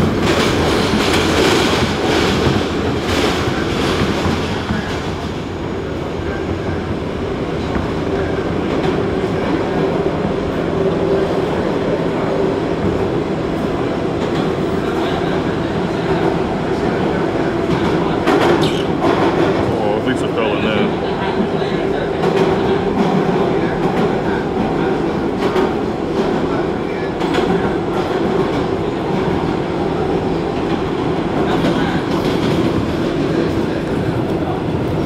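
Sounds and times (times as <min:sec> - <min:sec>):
subway train rumbling through tunnel: 0:00.0 - 0:35.0.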